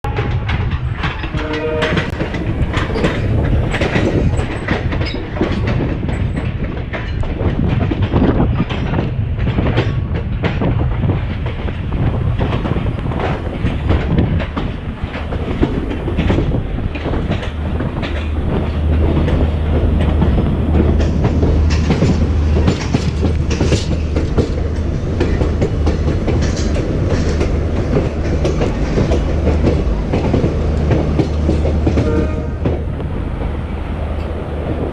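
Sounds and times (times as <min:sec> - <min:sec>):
electric train rumbling on rails: 0:00.0 - 0:34.9
wheels clattering over rail joints: 0:00.1 - 0:34.9.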